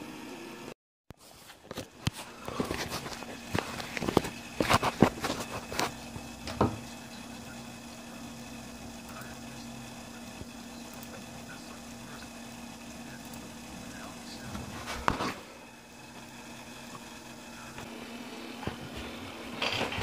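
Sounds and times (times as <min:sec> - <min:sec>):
steady hum: 0:00.0 - 0:20.0
faint high whine: 0:02.0 - 0:20.0.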